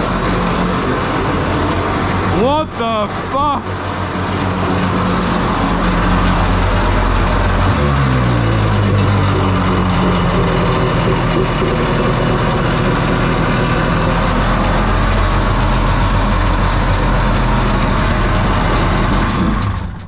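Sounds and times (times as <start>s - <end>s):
two-stroke boat engine running: 0.0s - 20.0s.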